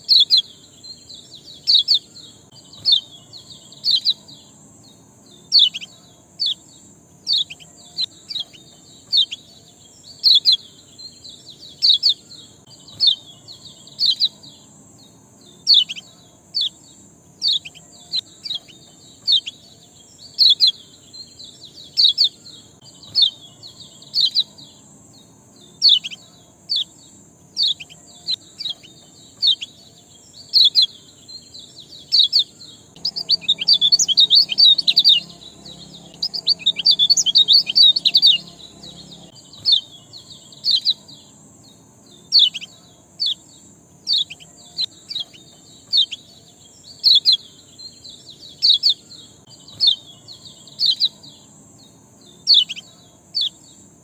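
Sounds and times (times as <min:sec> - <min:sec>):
small bird chirping: 0:00.0 - 0:54.0.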